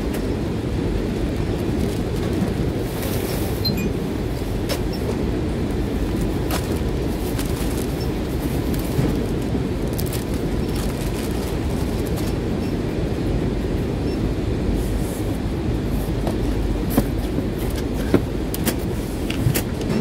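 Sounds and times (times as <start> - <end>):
warehouse machinery rumble: 0.0 - 20.0.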